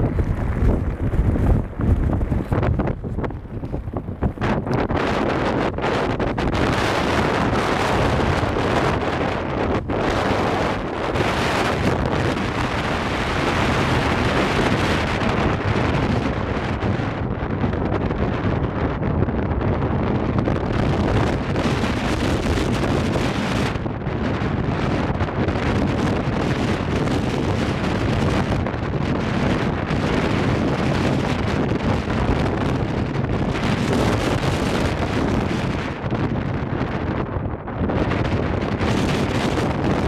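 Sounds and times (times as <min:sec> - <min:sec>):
strong wind buffeting microphone: 0:00.0 - 0:40.0.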